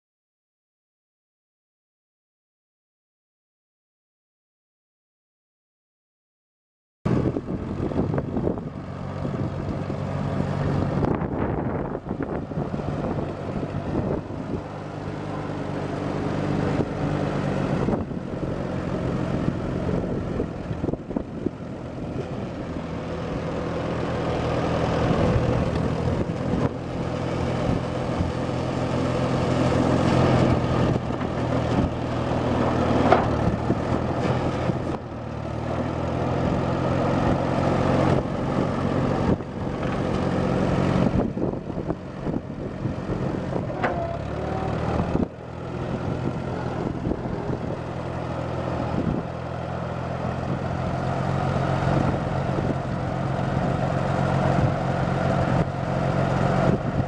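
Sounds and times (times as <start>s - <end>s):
tractor engine running: 7.1s - 57.0s.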